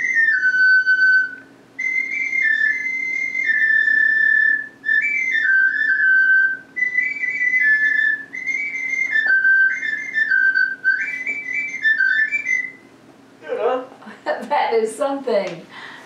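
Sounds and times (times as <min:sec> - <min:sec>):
clay flute melody: 0:00.0 - 0:12.9.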